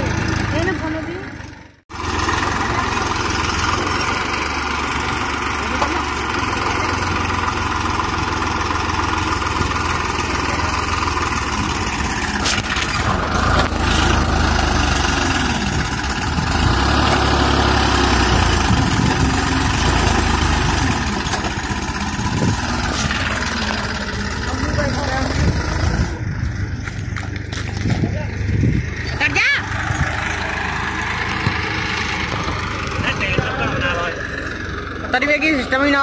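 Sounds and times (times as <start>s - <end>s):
tractor engine running under load: 0.0s - 36.0s.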